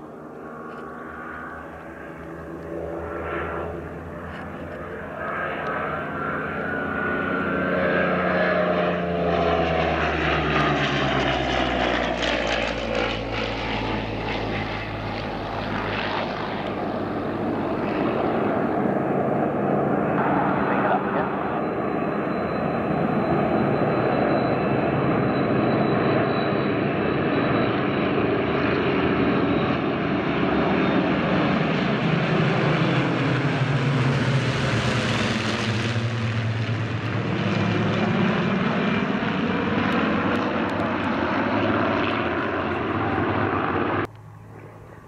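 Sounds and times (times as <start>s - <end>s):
propeller planes droning overhead: 0.0s - 45.0s.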